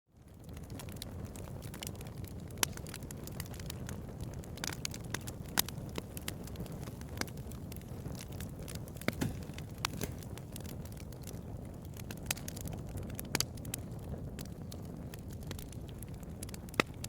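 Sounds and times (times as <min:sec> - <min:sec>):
low rumble of fire: 0:00.1 - 0:17.0
bonfire crackling and popping: 0:00.2 - 0:17.0.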